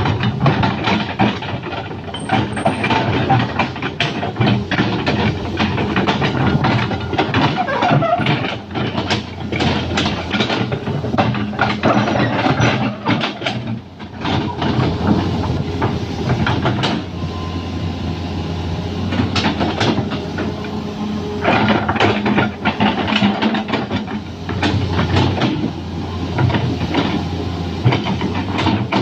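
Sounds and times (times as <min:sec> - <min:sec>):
metallic clanks and knocks: 0:00.0 - 0:17.1, 0:19.1 - 0:20.8, 0:21.4 - 0:29.0
excavator engine droning: 0:00.0 - 0:29.0.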